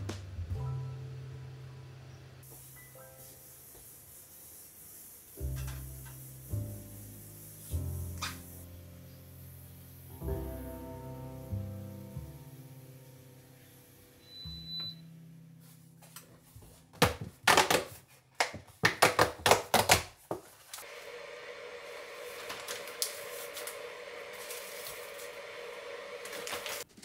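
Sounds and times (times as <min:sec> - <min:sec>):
steady hum with hiss: 0:00.0 - 0:17.0, 0:20.8 - 0:26.9.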